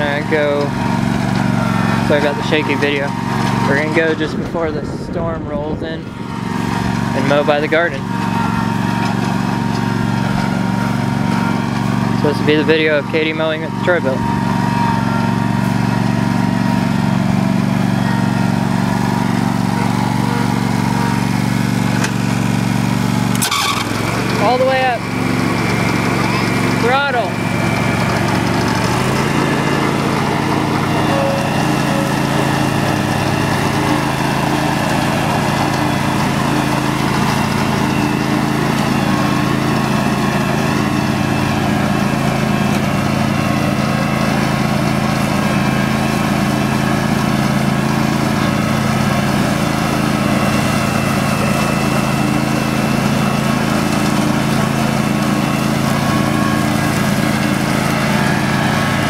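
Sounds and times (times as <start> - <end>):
lawn tractor engine running: 0.0 - 59.0.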